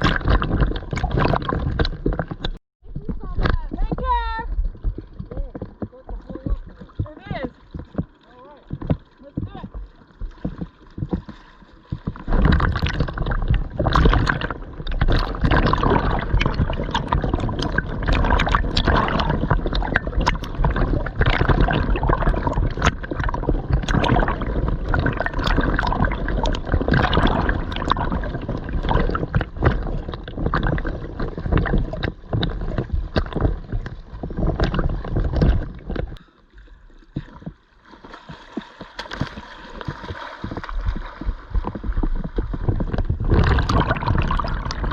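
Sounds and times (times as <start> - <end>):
water splashing and gurgling: 0.0 - 44.9.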